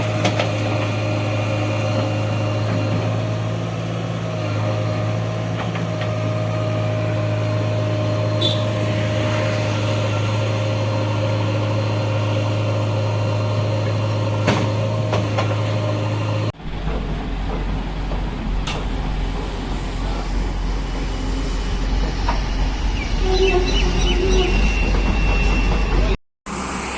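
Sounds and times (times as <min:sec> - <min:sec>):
engine humming: 0:00.0 - 0:26.9.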